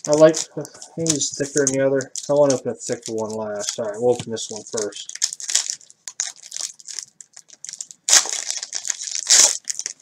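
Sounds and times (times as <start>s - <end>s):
foil wrapper crinkling and ripping: 0.0s - 10.0s.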